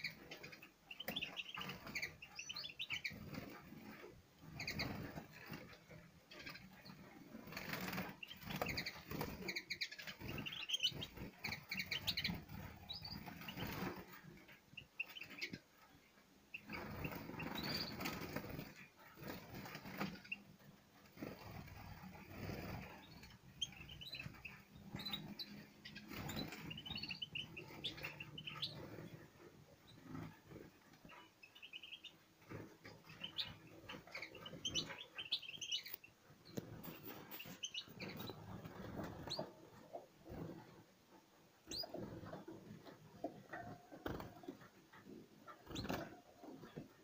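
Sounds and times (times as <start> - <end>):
finches chirping: 0.0 - 20.6, 21.2 - 40.7, 41.6 - 47.0
wings fluttering and rustling: 0.0 - 47.0.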